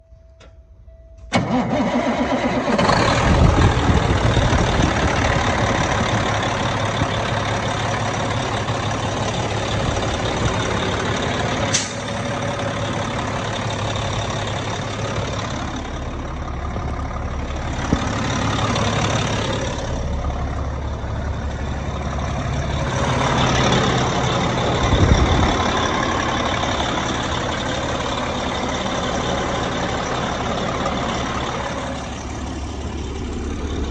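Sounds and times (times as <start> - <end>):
diesel truck engine starting and idling: 0.0 - 33.9.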